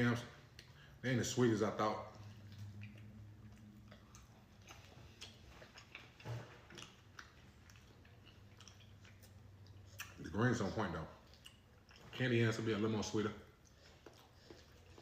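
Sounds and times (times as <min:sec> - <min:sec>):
chewing food: 0:00.1 - 0:15.0.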